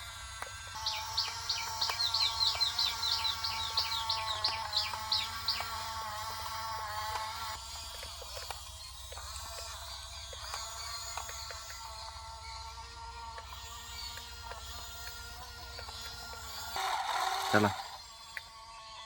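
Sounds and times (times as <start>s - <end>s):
bird chirping: 0.8s - 19.0s.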